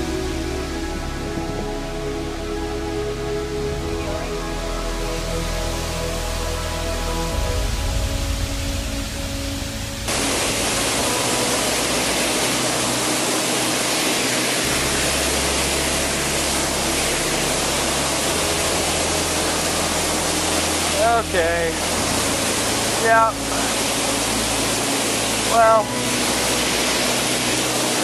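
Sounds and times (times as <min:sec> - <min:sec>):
background music: 0:00.0 - 0:28.0
waterfall rushing: 0:00.0 - 0:28.0.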